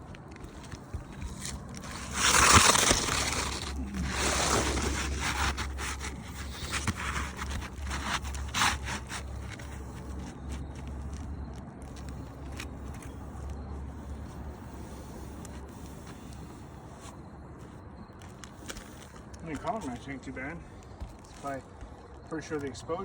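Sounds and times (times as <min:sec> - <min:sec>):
scraping on roof shingles: 0:00.0 - 0:20.1.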